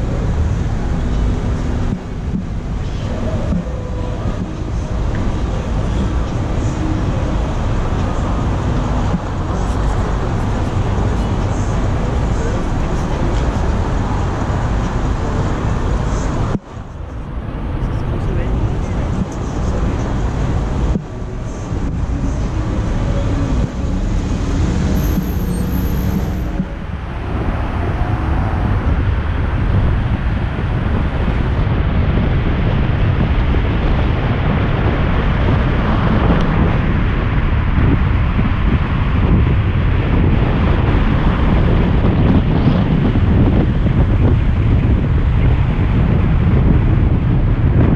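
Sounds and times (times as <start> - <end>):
road and engine rumble: 0.0 - 47.9
wind on microphone: 0.0 - 47.9.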